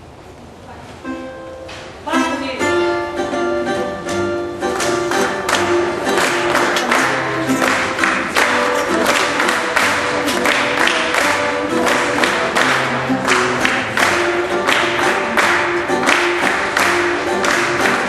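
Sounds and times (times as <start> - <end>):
plucked guitars playing: 1.0 - 18.0.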